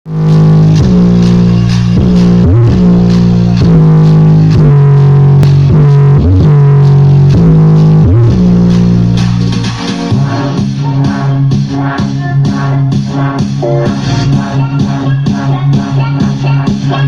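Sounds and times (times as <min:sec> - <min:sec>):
bass-heavy music with guitar: 0:00.0 - 0:17.0.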